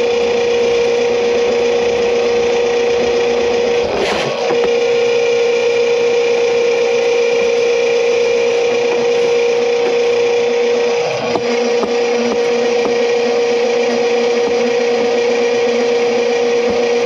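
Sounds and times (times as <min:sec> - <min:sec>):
drain cleaning machine hum: 0:00.0 - 0:17.0.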